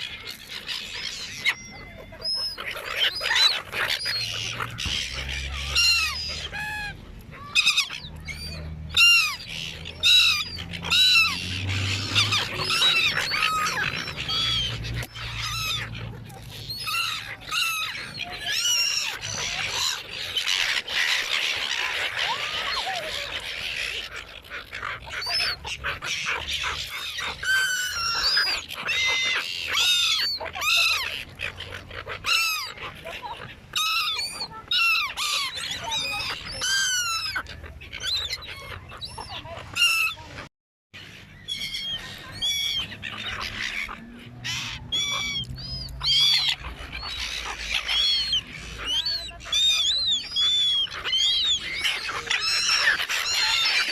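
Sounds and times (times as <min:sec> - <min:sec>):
seagulls squawking: 0:00.0 - 0:53.9.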